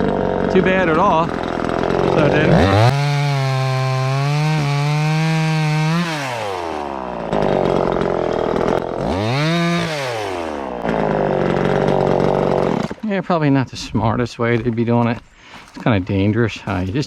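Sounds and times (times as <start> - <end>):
chainsaw cutting wood: 0.0 - 13.1, 14.5 - 17.0.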